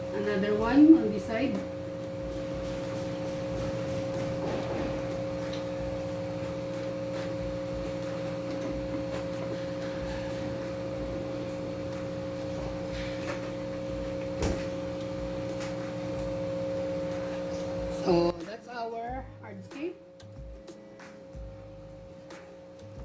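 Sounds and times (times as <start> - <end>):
steady two-tone hum: 0.0 - 23.0.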